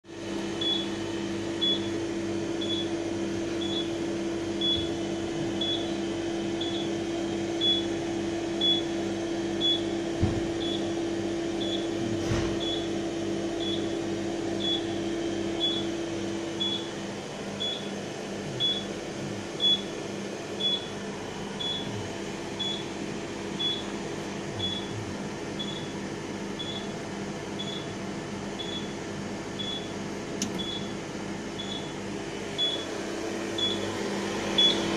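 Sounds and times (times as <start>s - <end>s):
laser cutter fans humming: 0.1s - 34.9s.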